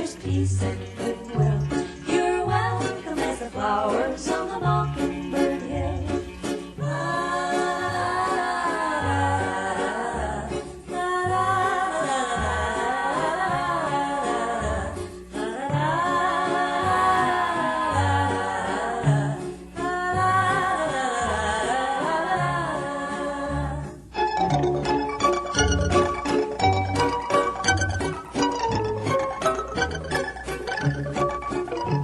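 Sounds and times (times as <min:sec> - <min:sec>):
old pop recording: 0:00.0 - 0:32.0.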